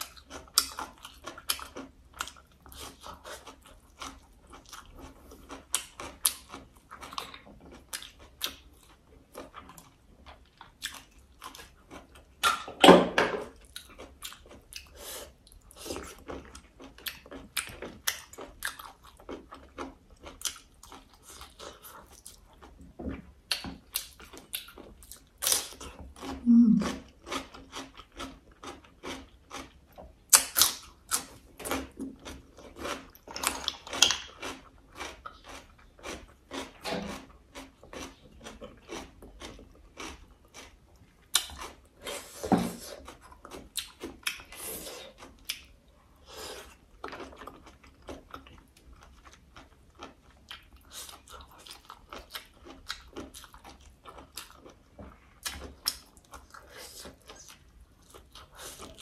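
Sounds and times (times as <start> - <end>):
wet chewing and smacking: 0.0 - 12.8, 13.5 - 59.0.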